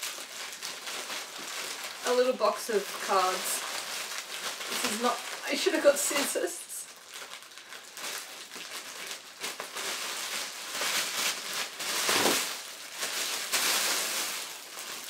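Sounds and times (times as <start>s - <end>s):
plastic bag tearing and crinkling: 0.0s - 15.0s.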